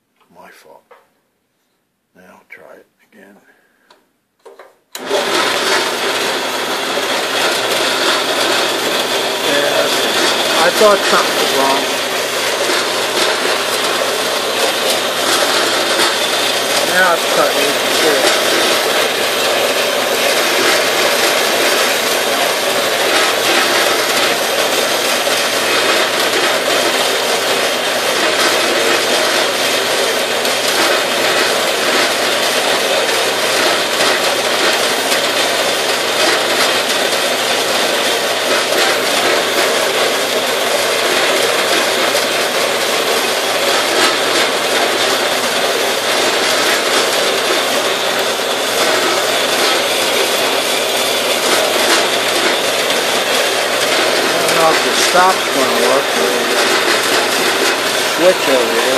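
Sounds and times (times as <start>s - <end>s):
bandsaw cutting steel bar: 5.0s - 58.9s.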